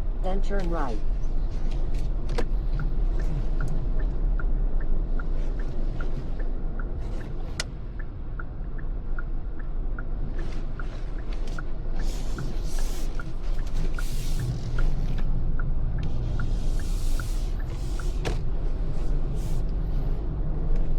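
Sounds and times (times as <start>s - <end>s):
car engine and road rumble: 0.0s - 20.9s
turn signal ticking: 0.2s - 20.9s.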